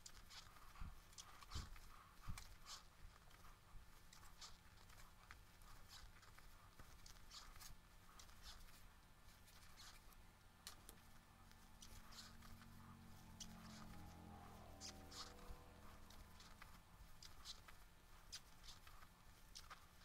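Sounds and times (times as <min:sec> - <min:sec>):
crochet hook rustling yarn: 0:00.0 - 0:20.0.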